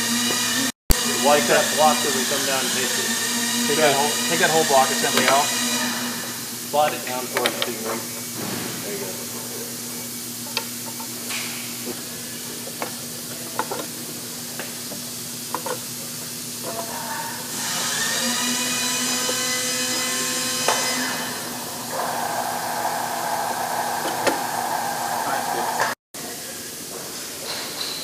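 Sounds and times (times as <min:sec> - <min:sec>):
loud high mechanical whine: 0:00.0 - 0:26.0.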